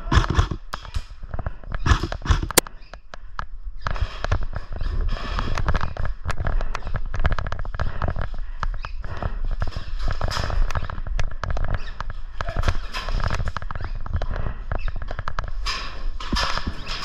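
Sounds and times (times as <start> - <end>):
noisy background: 0.0 - 17.0.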